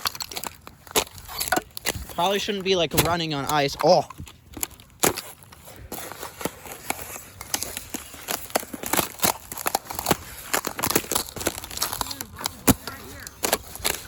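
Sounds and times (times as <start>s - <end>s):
footsteps crunching on ice: 0.0s - 14.0s.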